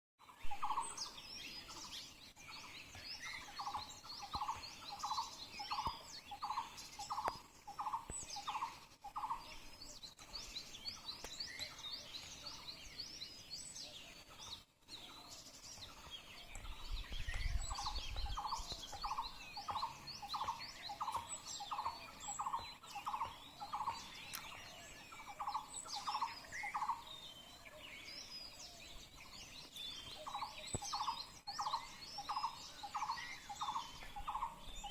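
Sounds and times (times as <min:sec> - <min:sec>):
birds chirping and twittering: 0:00.2 - 0:34.9.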